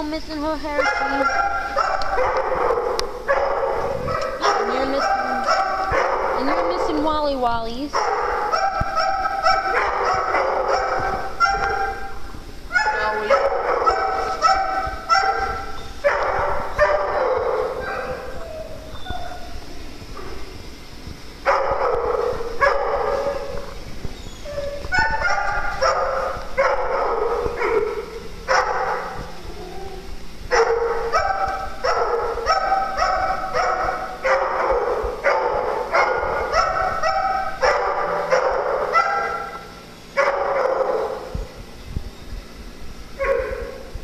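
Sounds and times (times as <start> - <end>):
small dog barking: 0.8 - 7.0, 7.9 - 19.5, 21.5 - 23.8, 24.9 - 29.3, 30.5 - 41.3, 43.2 - 43.9.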